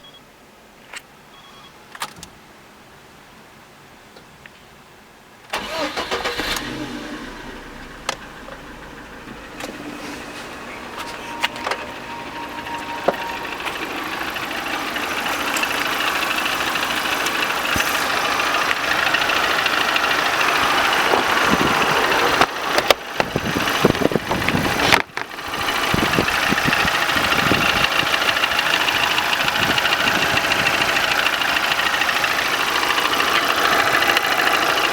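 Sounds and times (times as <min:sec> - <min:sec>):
car engine starting and idling: 0:05.5 - 0:34.9.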